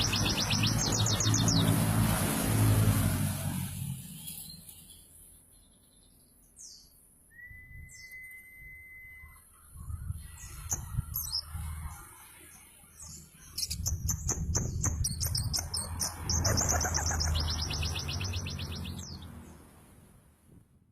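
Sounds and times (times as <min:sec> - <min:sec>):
bird chirping and trilling: 0:00.0 - 0:01.9, 0:04.2 - 0:19.4.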